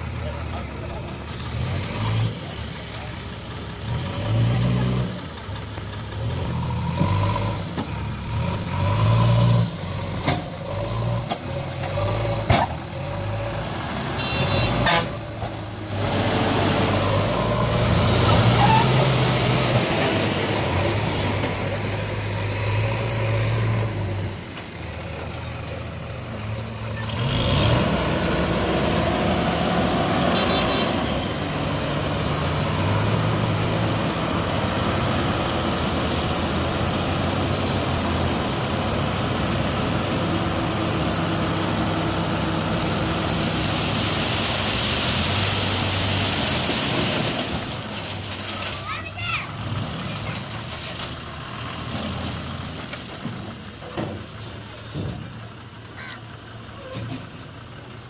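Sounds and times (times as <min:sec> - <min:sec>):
backhoe loader revving: 0:00.0 - 0:58.0
truck diesel engine: 0:00.0 - 0:58.0.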